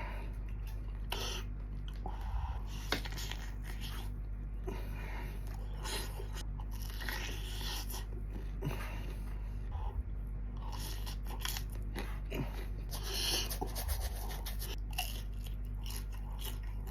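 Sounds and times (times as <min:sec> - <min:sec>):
crunching and chewing food: 0:00.0 - 0:16.9
low electrical hum: 0:00.0 - 0:16.9.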